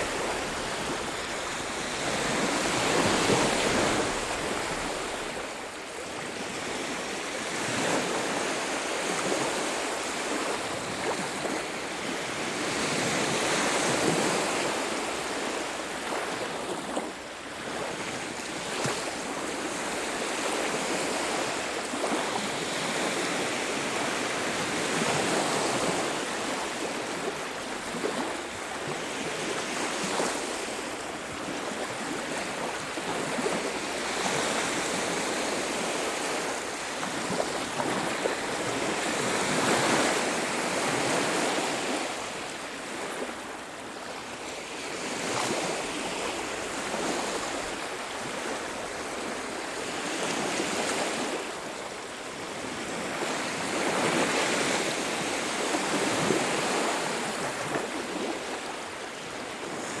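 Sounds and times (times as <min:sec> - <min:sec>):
waves breaking on beach: 0:00.0 - 1:00.0.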